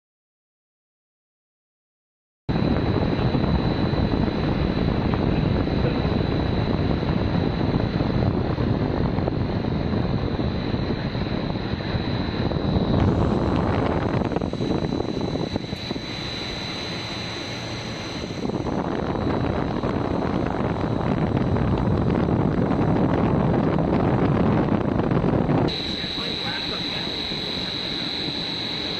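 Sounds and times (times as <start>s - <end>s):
extruder machine noise: 2.5s - 28.9s
thin high machine whine: 2.5s - 28.9s.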